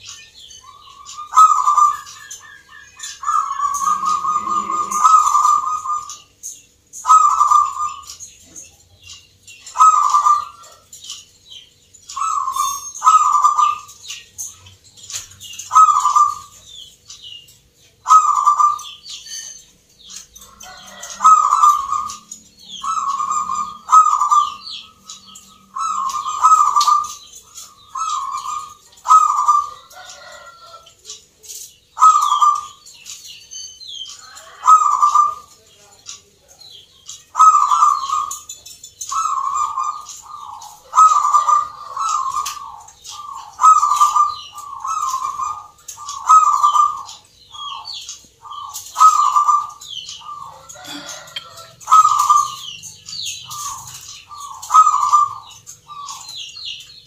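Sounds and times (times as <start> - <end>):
dove cooing: 0.7 - 6.4, 7.0 - 8.7, 9.6 - 11.1, 12.1 - 14.2, 15.0 - 16.8, 18.0 - 19.6, 20.2 - 30.9, 31.5 - 32.8, 34.2 - 35.6, 37.3 - 56.8.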